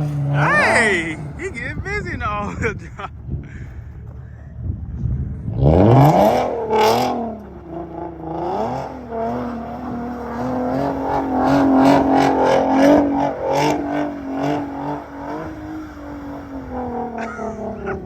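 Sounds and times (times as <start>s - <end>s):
car engine revving hard: 0.0s - 4.0s, 4.8s - 18.0s.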